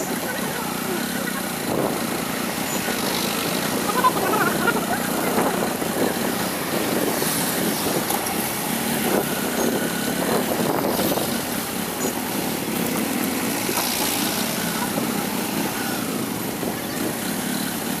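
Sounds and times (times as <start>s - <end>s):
scooter and motorcycle engines: 0.0s - 18.0s
wind: 0.0s - 18.0s.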